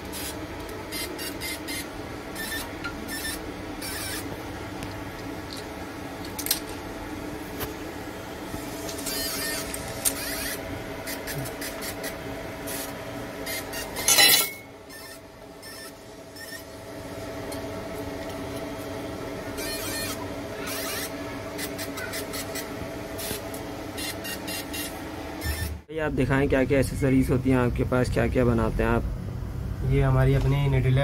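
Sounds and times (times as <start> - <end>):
machine humming: 0.0 - 31.0.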